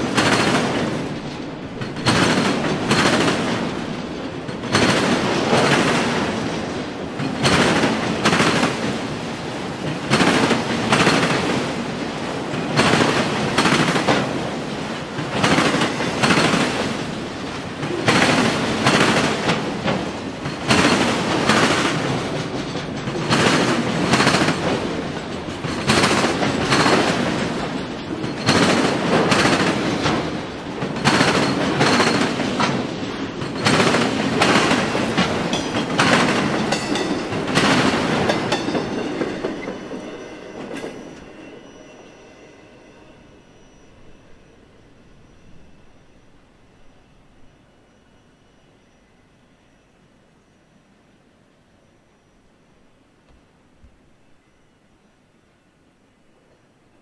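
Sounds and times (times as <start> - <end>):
train wheels clattering over crossing: 0.0 - 45.8.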